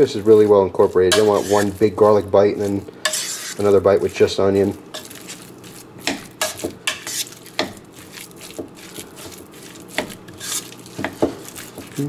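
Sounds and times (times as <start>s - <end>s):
metal spoon scraping a bowl: 0.0s - 3.8s, 4.9s - 12.0s.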